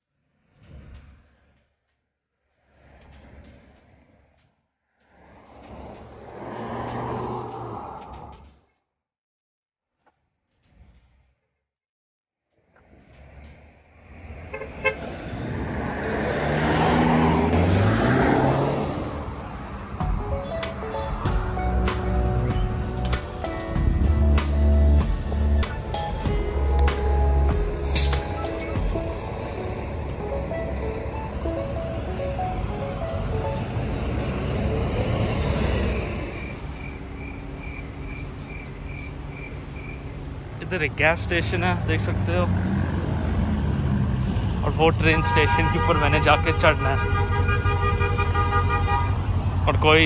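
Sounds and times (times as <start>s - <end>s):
car passing by: 2.5s - 8.4s, 12.8s - 47.0s
traffic hum: 2.5s - 8.5s, 12.8s - 50.0s.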